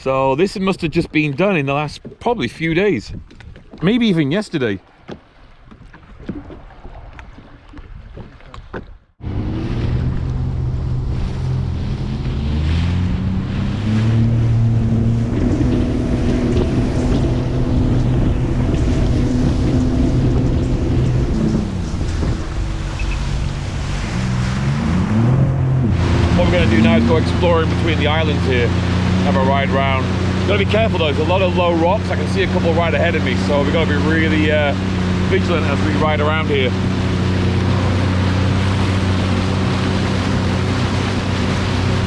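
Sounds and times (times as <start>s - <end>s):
faint water sounds: 0.0s - 42.0s
water rushing against hull: 0.0s - 42.0s
watercraft engine droning: 0.0s - 42.0s
wind on microphone: 2.9s - 3.9s, 5.7s - 42.0s.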